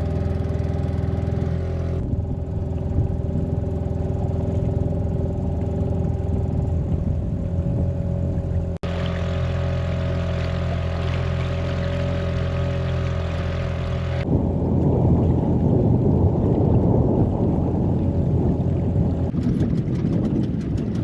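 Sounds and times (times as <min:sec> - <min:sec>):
outboard motor running: 0:00.0 - 0:21.0
rushing wind or water: 0:00.0 - 0:21.0.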